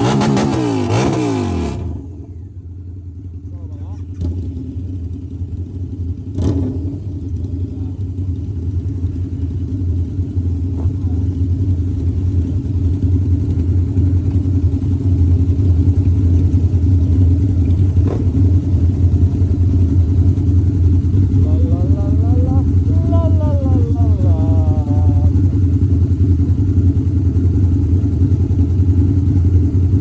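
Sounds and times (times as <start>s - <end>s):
motorcycle engine drone: 0.0s - 30.0s.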